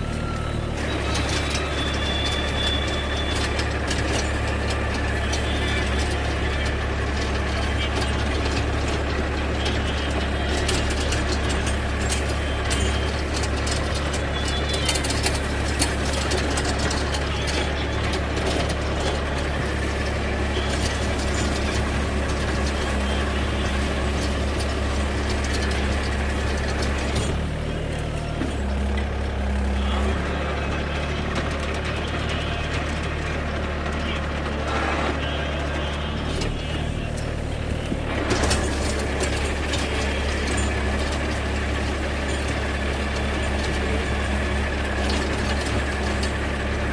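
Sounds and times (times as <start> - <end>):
tractor diesel engine running: 0.0 - 46.9
sharp clicks and rattles: 0.1 - 46.9.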